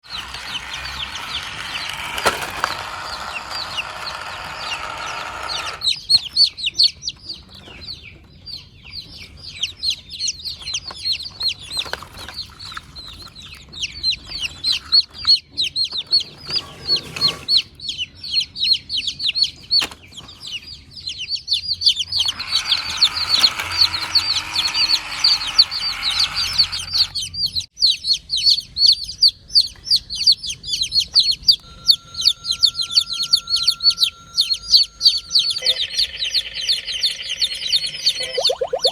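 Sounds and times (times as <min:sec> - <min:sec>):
small birds cheeping: 0:00.1 - 0:38.9.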